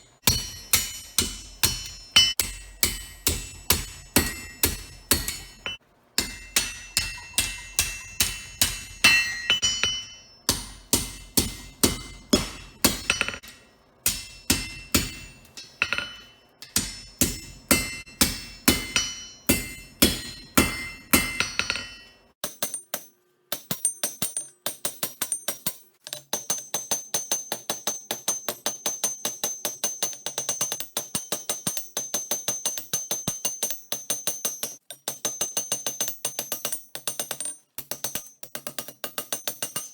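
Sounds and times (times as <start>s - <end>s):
hammer striking steel on anvil: 0.0s - 39.9s.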